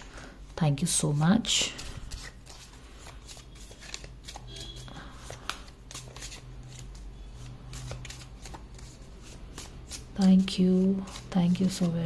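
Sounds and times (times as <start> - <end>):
cards being shuffled: 1.1 - 12.0.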